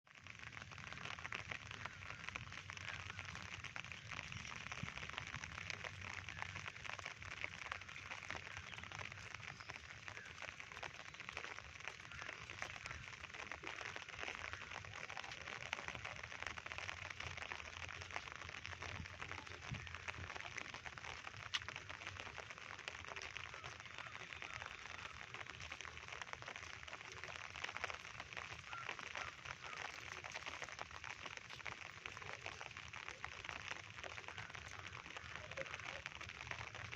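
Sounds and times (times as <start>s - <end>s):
rain falling: 0.1s - 36.9s.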